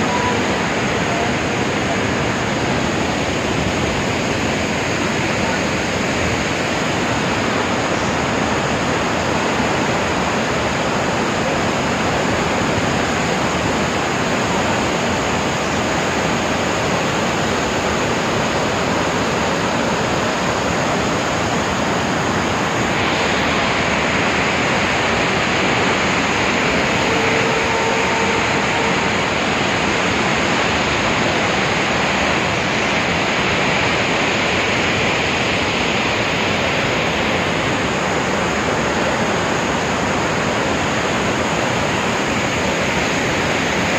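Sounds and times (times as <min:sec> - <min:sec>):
loud rushing noise: 0:00.0 - 0:43.9.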